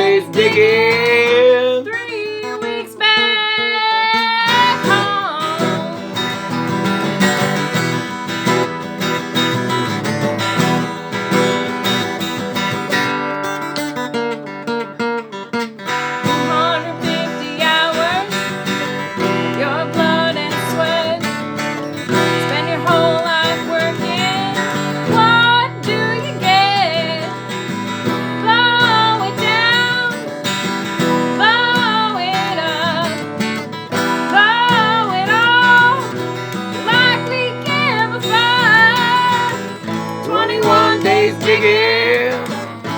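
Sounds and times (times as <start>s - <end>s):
strummed acoustic guitar chords: 0.0s - 42.9s.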